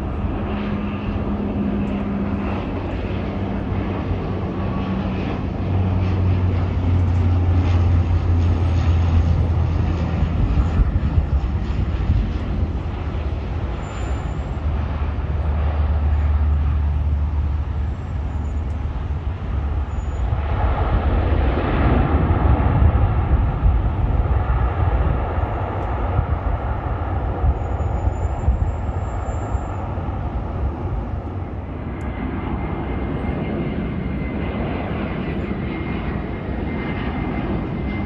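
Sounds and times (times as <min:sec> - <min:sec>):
jet airliner engines rumbling: 0:00.0 - 0:38.0.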